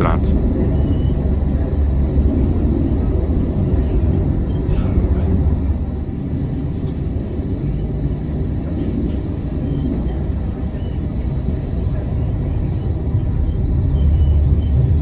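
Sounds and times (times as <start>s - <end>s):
tram wheels and motors rumbling: 0.0s - 15.0s.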